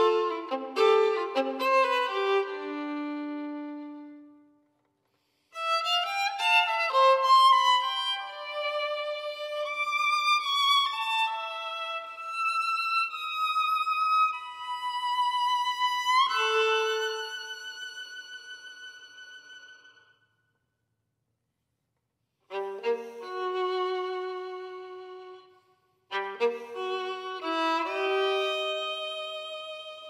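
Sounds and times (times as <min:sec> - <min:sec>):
violin playing slow melody: 0:00.0 - 0:04.5, 0:05.6 - 0:20.2, 0:22.5 - 0:30.0.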